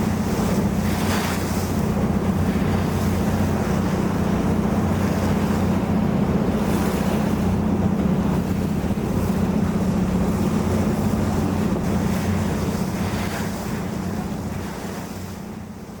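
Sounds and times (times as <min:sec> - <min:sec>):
boat engine humming: 0:00.0 - 0:16.0
rushing water: 0:00.0 - 0:16.0
wind on microphone: 0:00.0 - 0:16.0.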